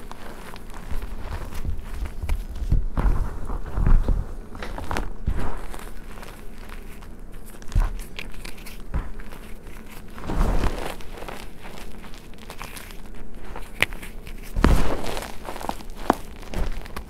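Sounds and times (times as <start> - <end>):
hands crumbling chalk: 0.0 - 17.0.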